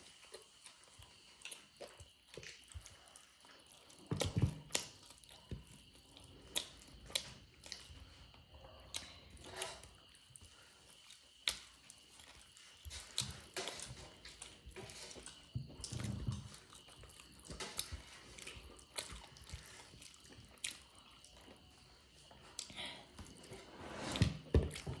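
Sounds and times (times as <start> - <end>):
person chewing crunchy food: 0.0 - 25.0.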